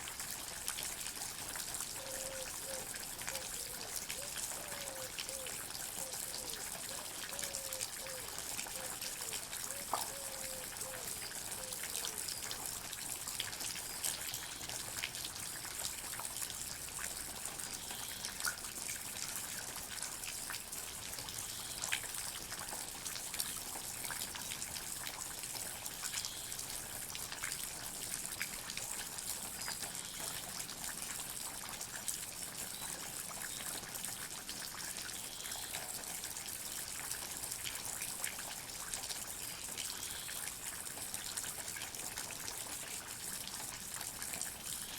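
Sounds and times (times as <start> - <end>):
steady trickling hiss: 0.0 - 44.9.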